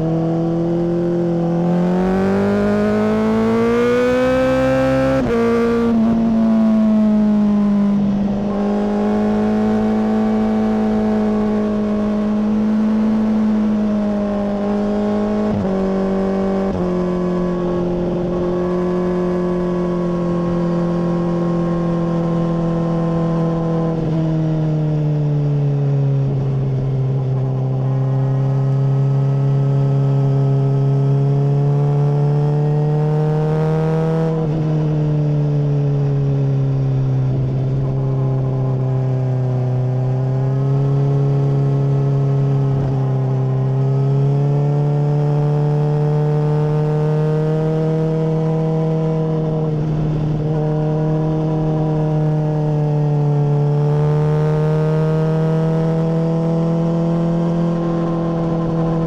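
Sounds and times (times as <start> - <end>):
motorcycle engine revving: 0.0 - 24.5, 26.2 - 59.0.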